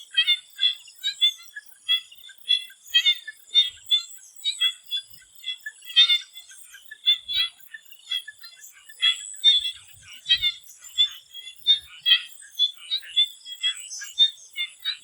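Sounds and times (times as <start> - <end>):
frogs croaking in chorus: 0.0 - 15.0.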